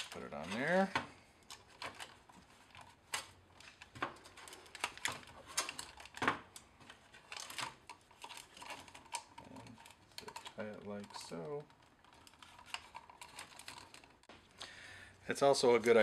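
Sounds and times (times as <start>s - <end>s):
light plastic handling: 0.0s - 14.4s.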